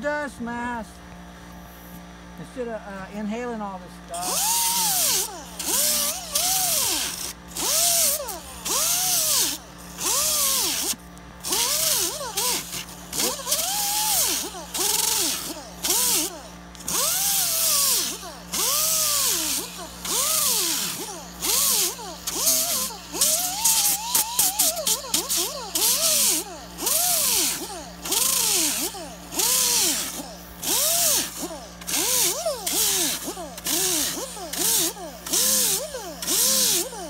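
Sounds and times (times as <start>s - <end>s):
air grinder hissing whine: 1.4s - 37.0s.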